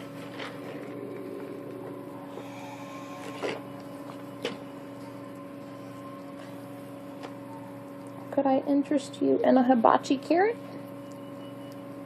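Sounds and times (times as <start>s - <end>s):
mechanical hum with tones: 0.0s - 12.0s.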